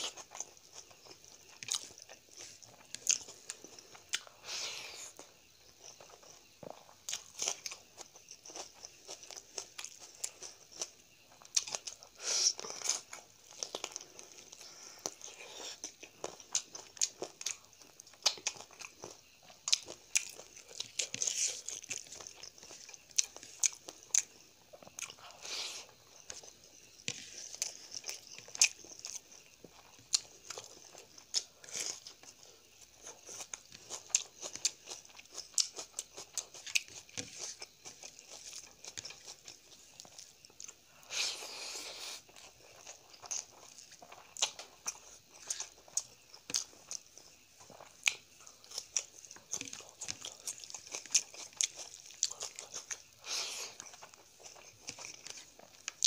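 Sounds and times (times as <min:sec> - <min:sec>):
wet chewing and mouth clicks: 0:00.0 - 0:56.0.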